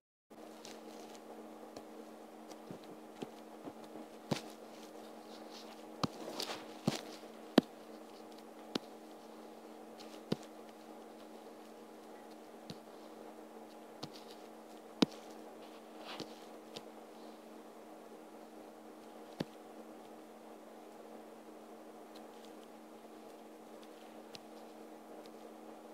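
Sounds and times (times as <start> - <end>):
low electrical hum: 0.3 - 25.9.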